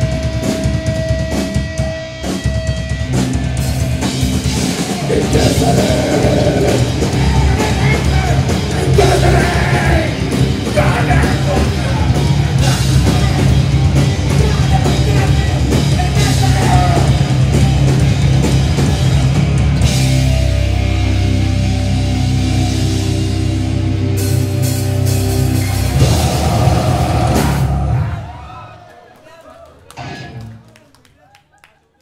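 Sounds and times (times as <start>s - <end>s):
distorted guitars: 0.0s - 28.4s
loud grindcore band playing: 0.0s - 28.6s
drums: 0.0s - 28.9s.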